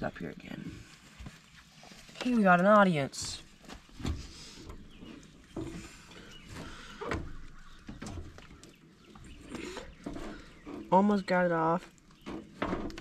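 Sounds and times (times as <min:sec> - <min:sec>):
faint rustling: 0:00.5 - 0:11.0.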